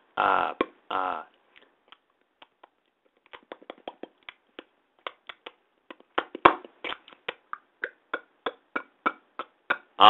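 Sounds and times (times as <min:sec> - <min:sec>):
tongue clicks: 0:01.6 - 0:10.0.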